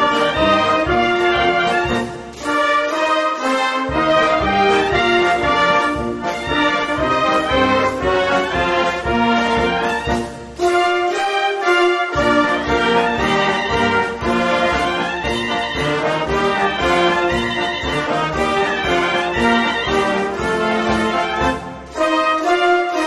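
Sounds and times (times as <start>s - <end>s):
wind band playing a march: 0.0s - 23.0s.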